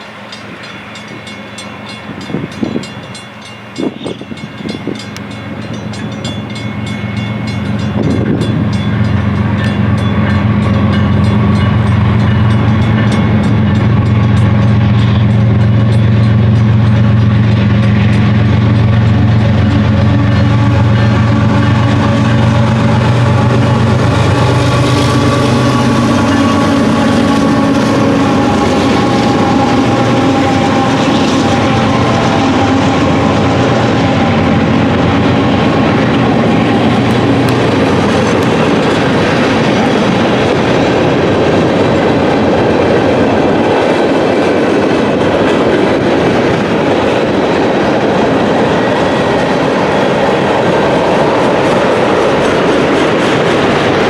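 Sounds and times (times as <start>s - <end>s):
locomotive engine hum: 0.0s - 54.0s
rail cars rumbling past: 0.0s - 54.0s.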